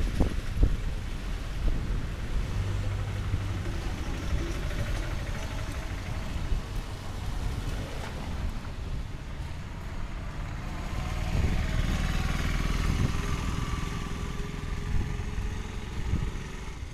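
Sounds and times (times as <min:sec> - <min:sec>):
light rain: 0:00.0 - 0:16.9
low engine hum: 0:00.0 - 0:16.9
low rumble of traffic: 0:00.0 - 0:16.9.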